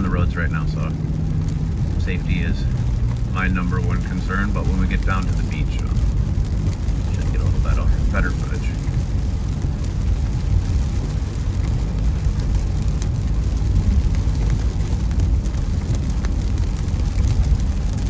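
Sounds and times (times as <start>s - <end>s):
car driving on wet road: 0.0s - 18.0s
rain striking car: 0.0s - 18.0s.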